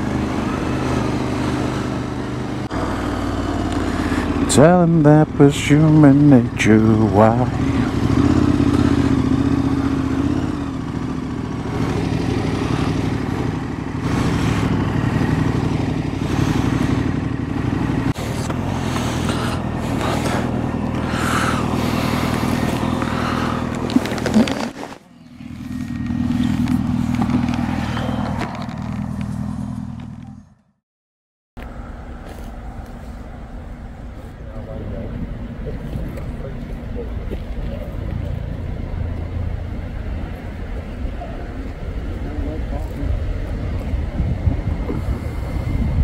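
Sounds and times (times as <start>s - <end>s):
motorcycle engine running: 0.0s - 30.8s, 31.6s - 46.0s.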